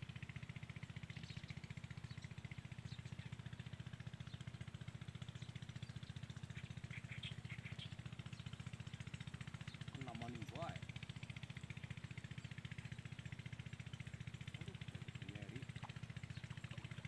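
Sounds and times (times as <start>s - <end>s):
engine throbbing steadily: 0.0s - 17.0s.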